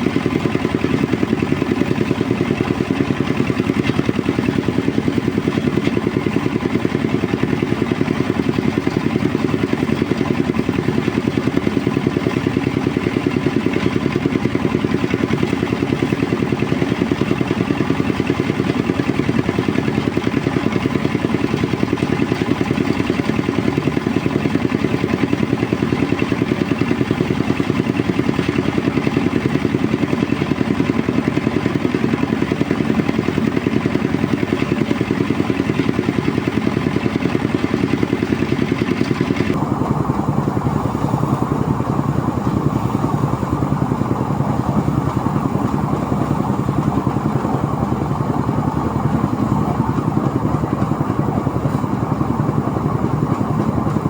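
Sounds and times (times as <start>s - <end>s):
threshing machine engine chugging: 0.0s - 54.0s.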